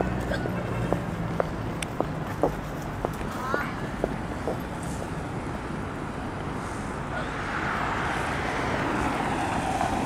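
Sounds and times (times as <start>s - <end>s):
city street traffic: 0.0s - 10.0s
vehicle passing: 0.0s - 10.0s.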